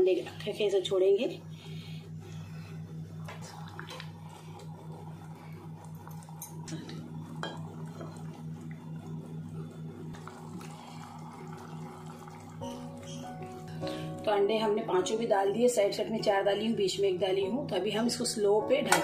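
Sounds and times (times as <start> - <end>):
steady low hum: 0.0 - 18.8.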